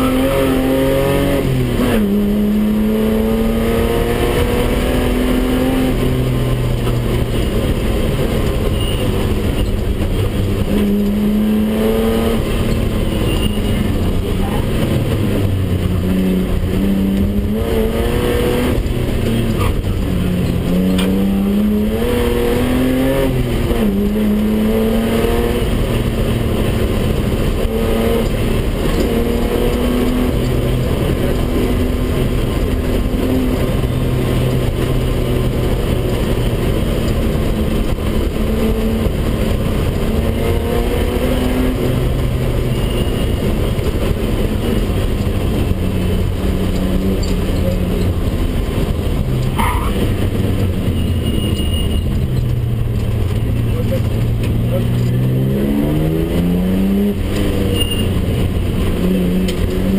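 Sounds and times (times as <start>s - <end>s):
car engine accelerating: 0.0s - 59.9s
road and cabin noise: 0.0s - 59.9s.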